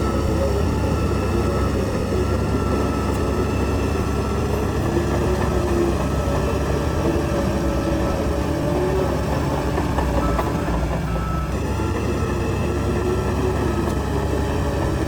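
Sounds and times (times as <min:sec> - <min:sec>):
heavy diesel machinery rumbling: 0:00.0 - 0:15.0.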